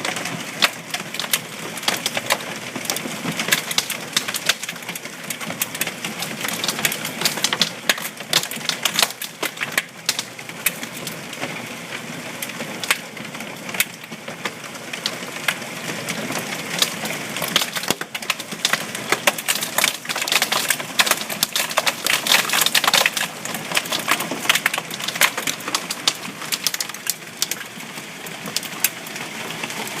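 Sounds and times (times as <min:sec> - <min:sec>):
hailstones pelting hard surfaces: 0:00.0 - 0:30.0
rain-like hiss: 0:00.0 - 0:30.0.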